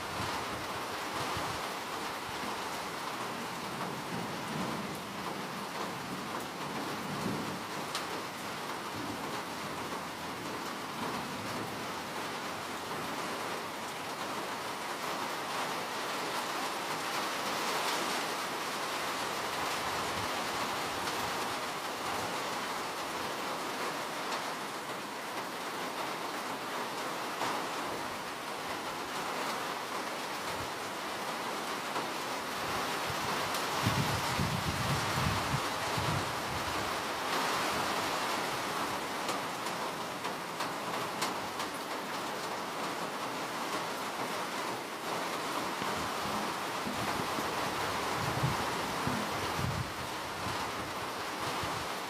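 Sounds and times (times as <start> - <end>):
steady rain hissing: 0.0 - 52.0.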